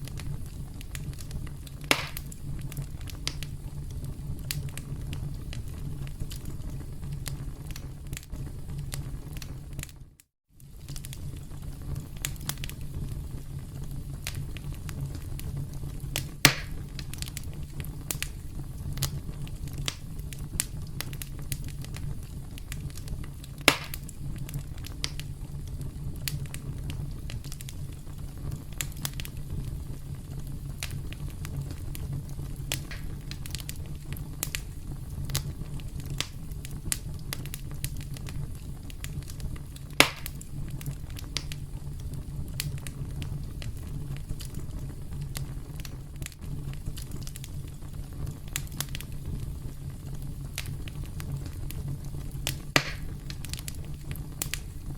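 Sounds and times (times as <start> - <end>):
campfire crackling: 0.0 - 54.9
fire popping: 0.0 - 54.9.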